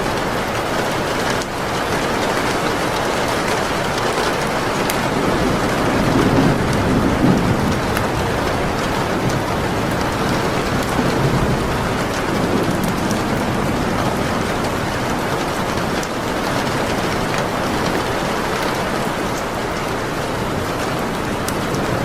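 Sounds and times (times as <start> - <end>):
heavy rain: 0.0 - 22.0
wood fire crackling: 0.0 - 22.0.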